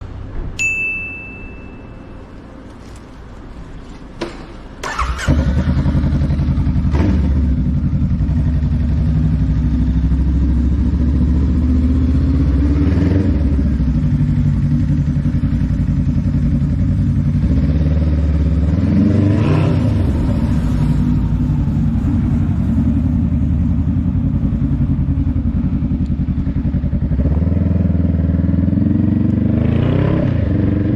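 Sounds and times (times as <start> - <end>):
motorcycle engine starting and idling: 3.8 - 30.9.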